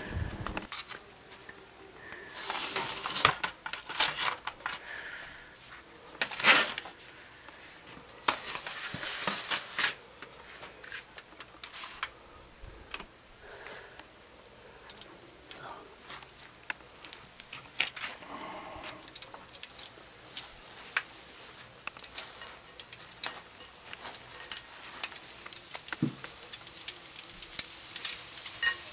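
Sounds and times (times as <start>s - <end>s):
aluminium trays crinkling and clattering: 0.7s - 5.0s, 5.8s - 12.2s, 14.9s - 28.9s.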